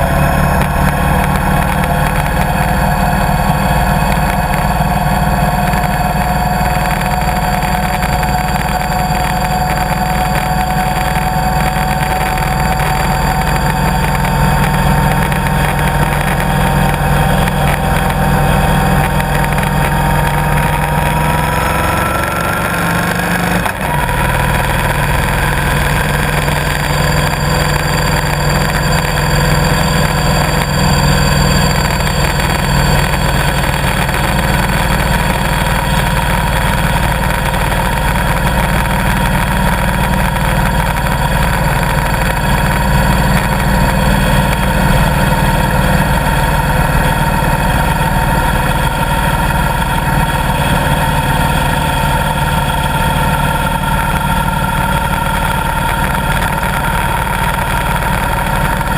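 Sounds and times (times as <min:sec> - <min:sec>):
motorcycle engine running: 0:00.0 - 0:58.9
steady rush of noise: 0:00.0 - 0:58.9.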